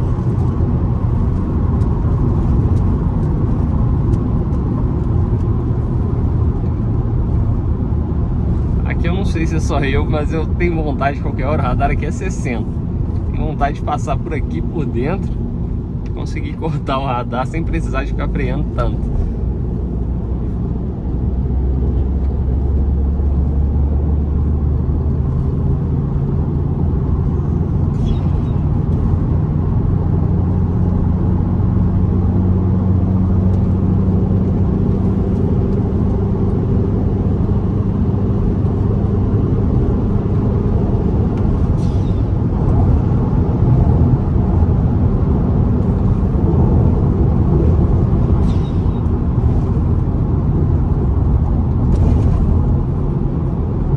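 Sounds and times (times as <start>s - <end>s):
car engine driving: 0.0s - 53.9s
road noise: 0.0s - 53.9s.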